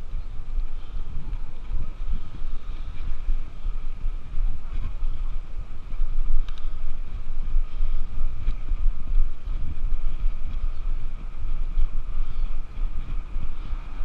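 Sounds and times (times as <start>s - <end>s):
wind buffeting microphone: 0.0s - 14.0s
bicycle clicks and rattles: 0.1s - 14.0s.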